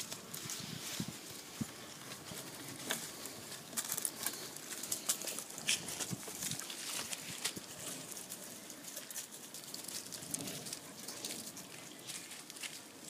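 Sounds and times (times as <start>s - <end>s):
dry leaves rustling under paws: 0.0s - 13.0s.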